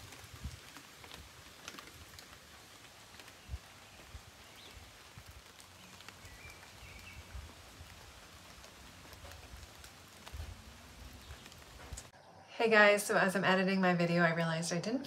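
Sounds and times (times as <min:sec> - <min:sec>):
raindrop ticks: 0:00.0 - 0:12.1
light rain falling: 0:00.0 - 0:14.8.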